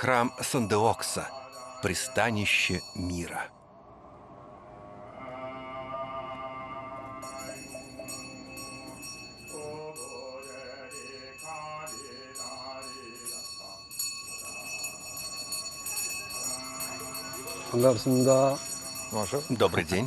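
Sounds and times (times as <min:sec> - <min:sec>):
chant-like singing voice: 0:00.0 - 0:02.8, 0:04.8 - 0:15.2, 0:16.0 - 0:19.2
small bells jingling: 0:00.0 - 0:03.5, 0:07.2 - 0:20.0.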